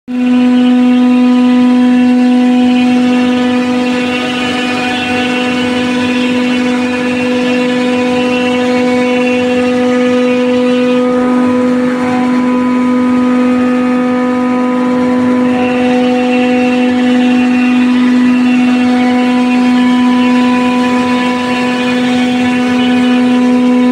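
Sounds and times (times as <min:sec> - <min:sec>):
cutter rasping drywall: 0:00.1 - 0:23.9
router spindle whine: 0:00.1 - 0:23.9.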